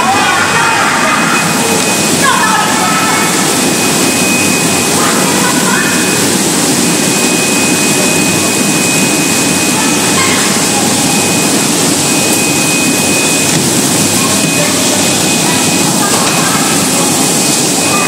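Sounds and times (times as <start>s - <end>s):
thin high steady tone: 0.0s - 18.0s
water bubbling and churning: 0.0s - 18.0s.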